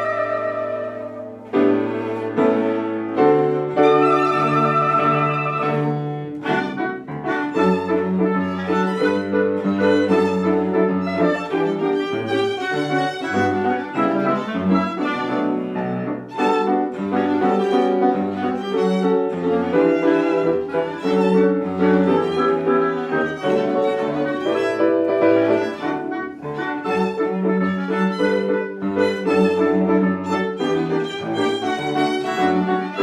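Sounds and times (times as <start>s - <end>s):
cello: 0.0s - 33.0s
piano: 0.0s - 33.0s
violin: 0.0s - 33.0s.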